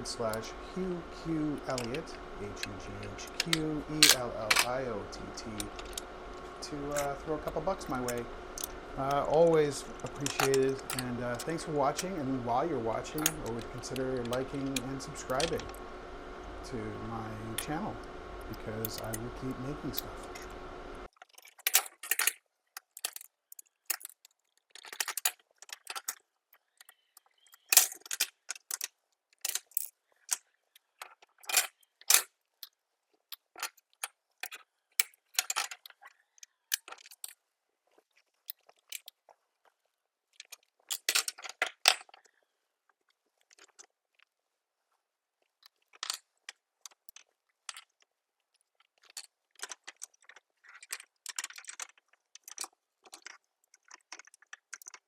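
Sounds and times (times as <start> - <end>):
plastic parts clicking and rattling: 0.0 - 15.8, 16.6 - 44.4, 45.4 - 55.0.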